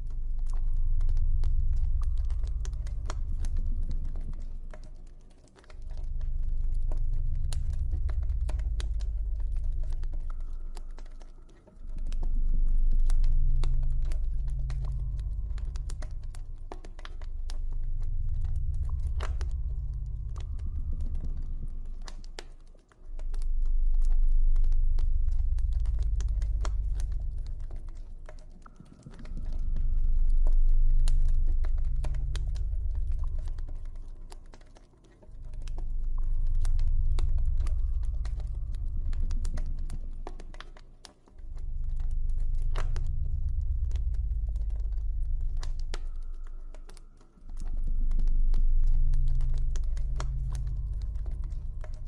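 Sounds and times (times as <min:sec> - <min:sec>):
deep low drone: 0:00.0 - 0:52.0.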